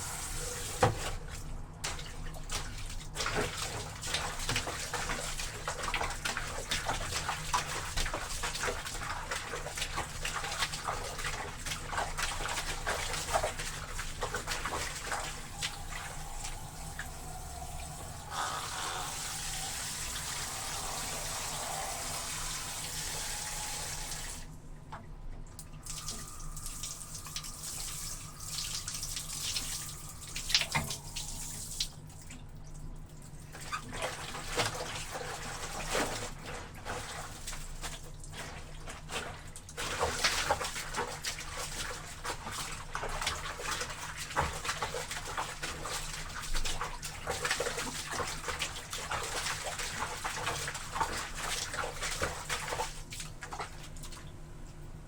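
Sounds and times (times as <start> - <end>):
laundry sloshing in water: 0.0 - 21.4, 27.0 - 54.8.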